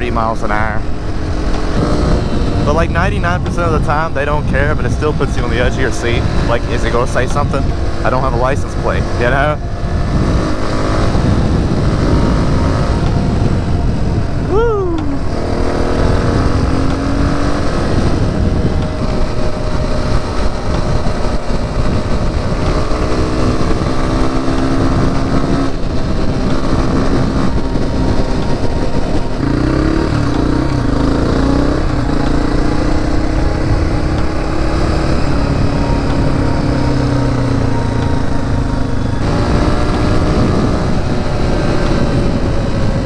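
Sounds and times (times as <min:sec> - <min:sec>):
motorcycle engine revving: 0:00.0 - 0:43.0
wind noise: 0:00.0 - 0:43.0.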